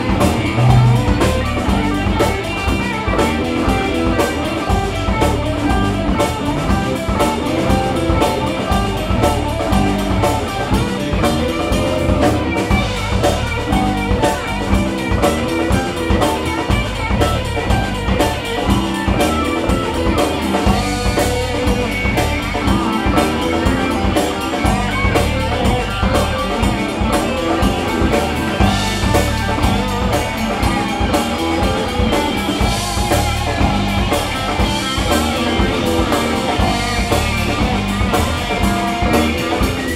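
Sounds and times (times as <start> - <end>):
rock band playing instrumental: 0.0 - 39.9.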